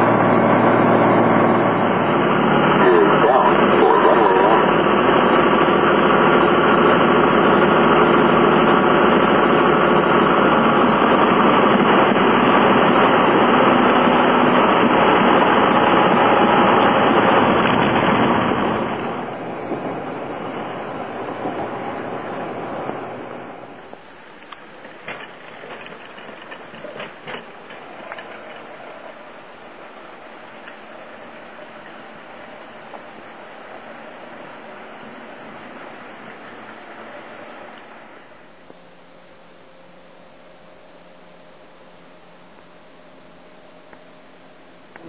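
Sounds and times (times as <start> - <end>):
light aircraft engine drone: 0.0 - 45.0.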